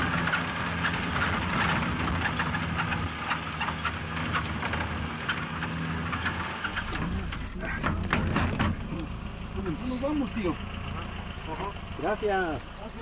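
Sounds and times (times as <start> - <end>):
truck bed rattling and knocking: 0.0 - 11.1
truck engine running: 0.0 - 13.0.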